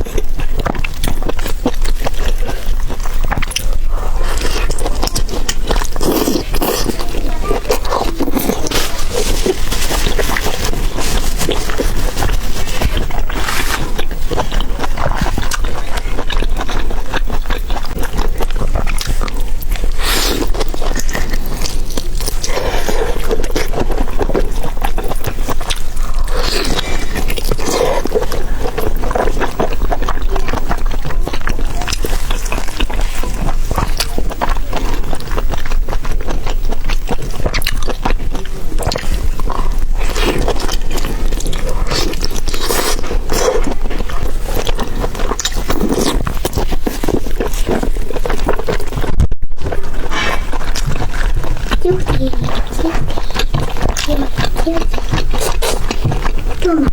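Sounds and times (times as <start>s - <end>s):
person chewing and biting: 0.0s - 56.9s.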